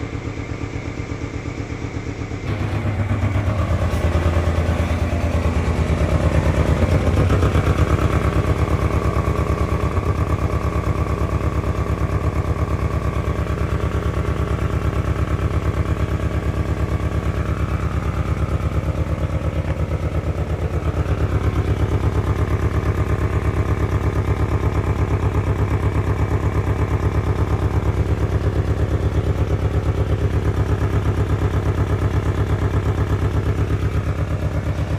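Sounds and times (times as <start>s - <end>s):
car engine idling roughly: 0.0s - 34.9s.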